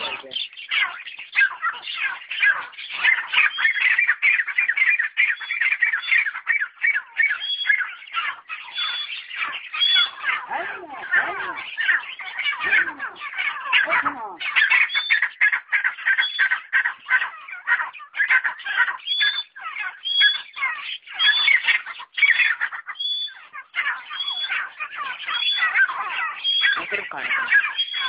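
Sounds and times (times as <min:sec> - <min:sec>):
whistled bird notes: 0:00.0 - 0:10.5, 0:11.1 - 0:15.5, 0:19.0 - 0:28.0
partridges chattering and chirping: 0:00.0 - 0:28.0.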